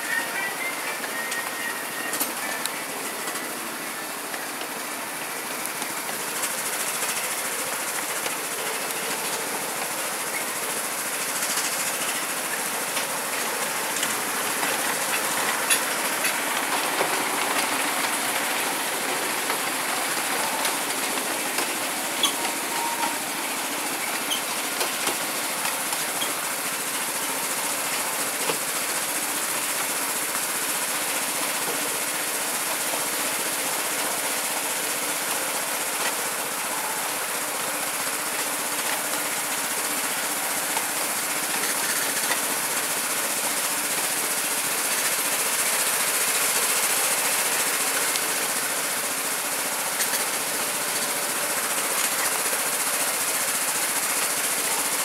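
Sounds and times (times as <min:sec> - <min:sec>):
wheels rattling on rails: 0:00.0 - 0:55.0.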